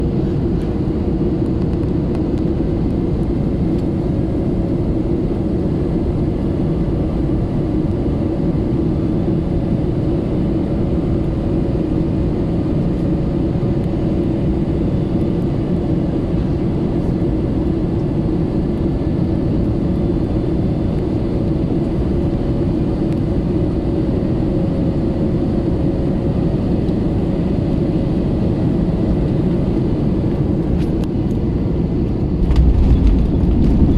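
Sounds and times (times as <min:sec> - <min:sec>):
airflow rush in cabin: 0:00.0 - 0:33.9
muffled jet engine hum: 0:00.0 - 0:33.9.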